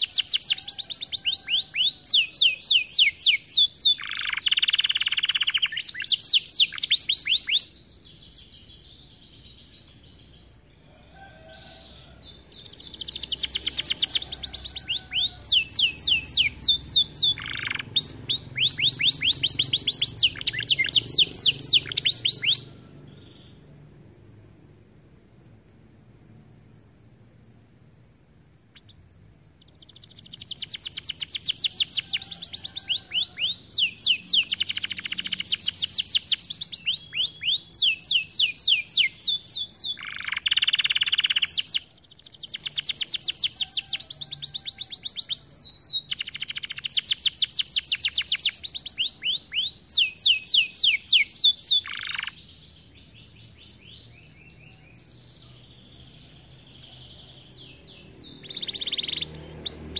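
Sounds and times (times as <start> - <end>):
canary singing trills: 0.0 - 23.8, 28.7 - 29.0, 29.6 - 59.9.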